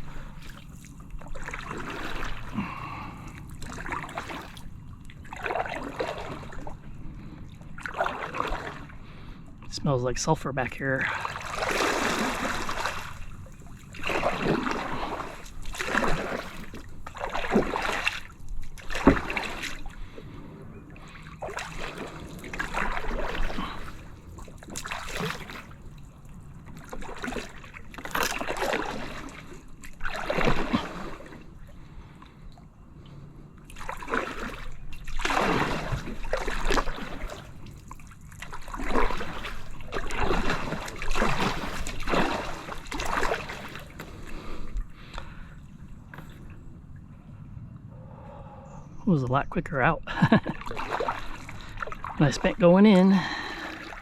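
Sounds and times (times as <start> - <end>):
paddle splashing in water: 0.0 - 9.3, 10.8 - 32.7, 33.6 - 46.7, 50.1 - 54.0.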